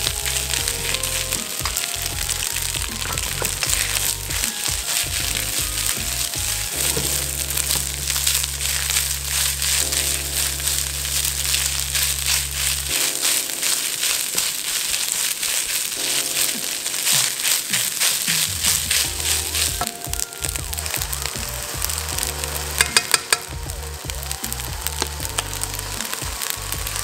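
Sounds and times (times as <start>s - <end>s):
rice sizzling: 0.0s - 27.0s.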